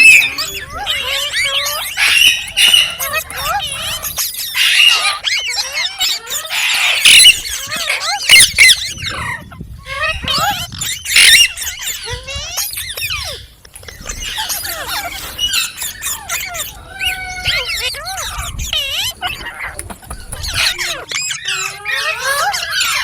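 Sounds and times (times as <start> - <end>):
parrot squawks: 0.0 - 13.4, 14.2 - 23.0
parrot chirping and chattering: 0.0 - 23.0.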